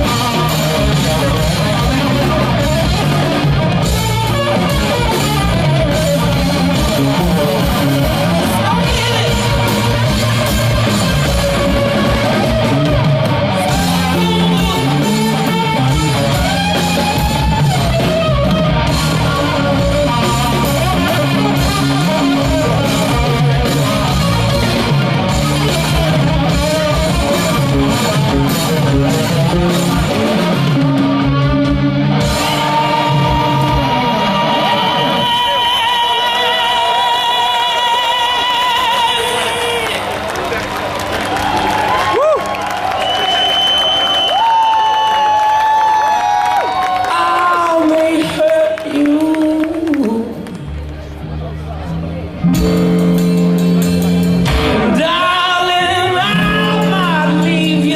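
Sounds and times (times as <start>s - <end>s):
electric guitar lead line: 0.0s - 40.3s, 43.0s - 57.9s
live rock band playing: 0.0s - 57.9s.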